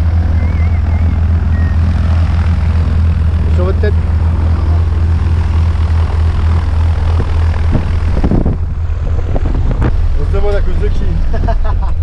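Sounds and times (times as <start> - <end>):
propeller plane engine running: 0.0 - 12.0.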